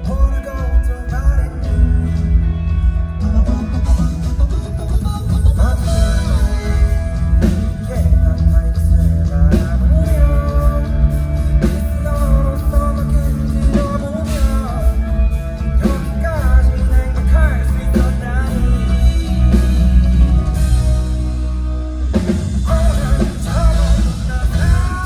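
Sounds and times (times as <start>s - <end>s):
person singing: 0.0s - 21.2s, 22.6s - 25.0s
live band playing: 0.0s - 25.0s.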